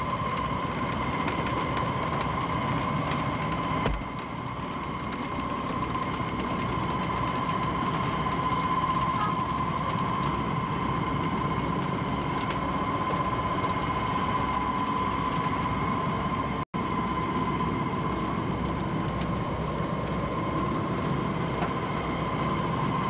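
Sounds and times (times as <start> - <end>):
boat engines droning: 0.0 - 23.0.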